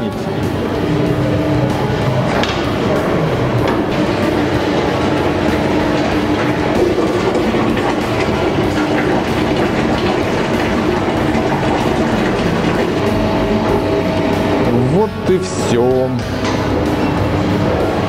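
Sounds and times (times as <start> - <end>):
pump and equipment running: 0.0 - 18.0.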